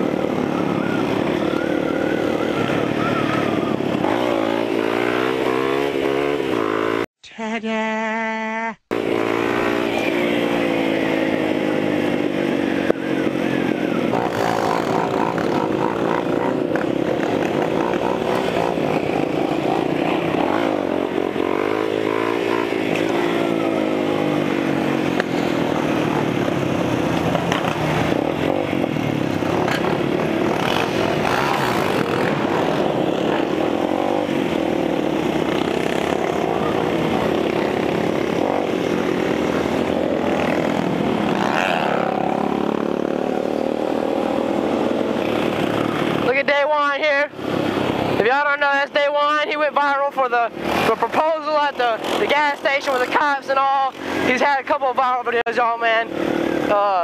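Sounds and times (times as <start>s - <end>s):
motorcycle engine revving: 0.0s - 7.1s, 8.9s - 57.0s
other vehicle engines: 0.0s - 7.1s, 8.9s - 57.0s.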